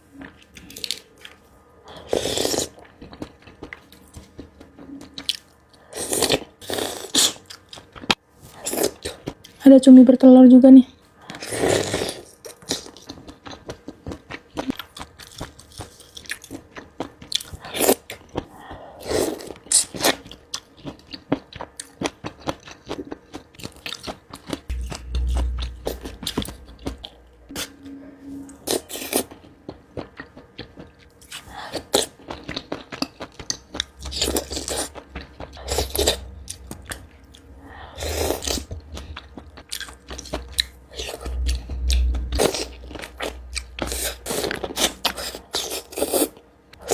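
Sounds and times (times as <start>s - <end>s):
person chewing and crunching food: 0.1s - 9.6s, 11.2s - 27.7s, 28.6s - 46.9s.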